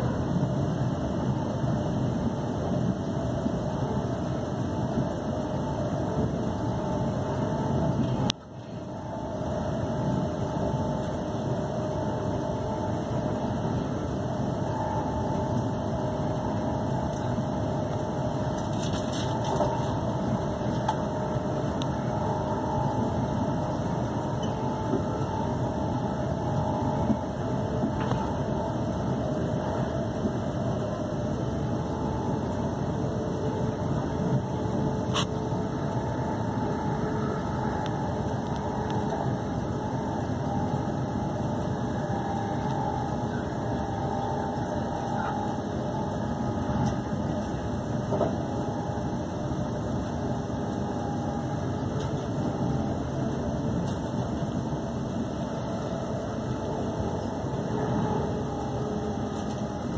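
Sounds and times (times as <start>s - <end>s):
faint motor whine: 0.0s - 59.9s
passing train: 0.0s - 59.9s
train wheels rumbling on rail: 0.0s - 59.9s.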